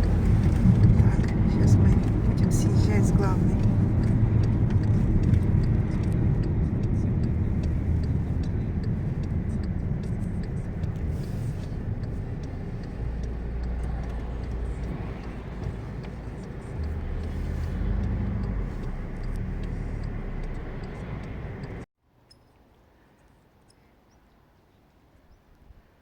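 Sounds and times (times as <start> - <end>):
car engine and tyre rumble: 0.0 - 21.9.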